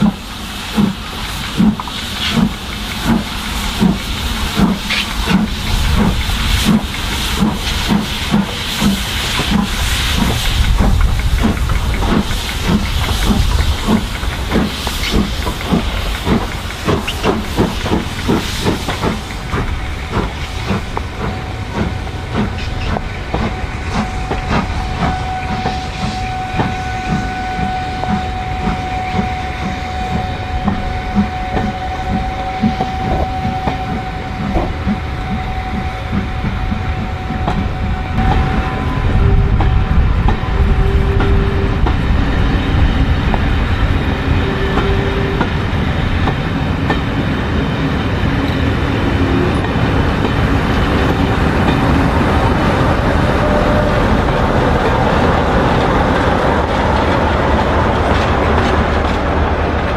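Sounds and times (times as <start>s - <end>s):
loud hiss of steam: 0.0s - 57.3s
steam locomotive exhaust beats: 0.0s - 59.9s.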